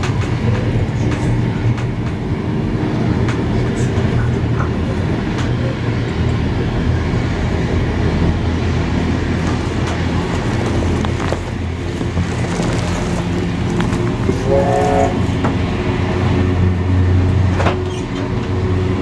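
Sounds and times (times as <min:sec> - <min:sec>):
steam train low rumble: 0:00.0 - 0:19.0.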